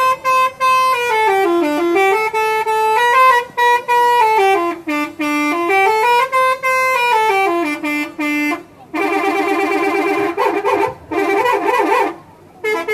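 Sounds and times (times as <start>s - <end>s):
musical bus horn playing a tune: 0.0s - 12.9s.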